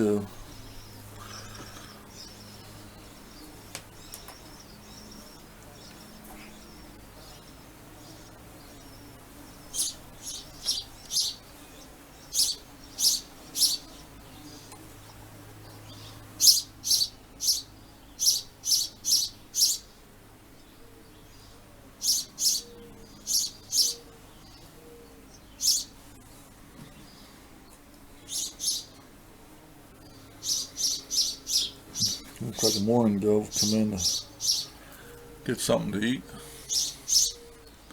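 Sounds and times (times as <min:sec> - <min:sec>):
sparrows chirping: 0:00.0 - 0:37.9.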